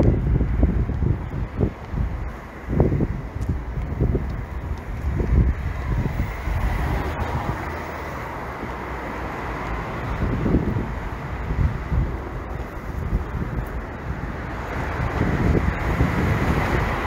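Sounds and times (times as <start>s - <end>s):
traffic rumble: 0.0s - 17.0s
wind buffeting microphone: 0.0s - 17.0s.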